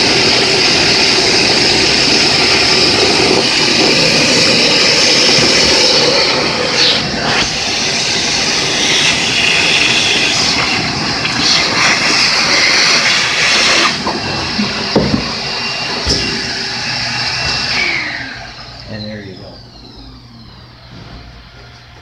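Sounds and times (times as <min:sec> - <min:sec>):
air rushing into vacuum hose: 0:00.0 - 0:22.0
shop vacuum running: 0:00.0 - 0:22.0.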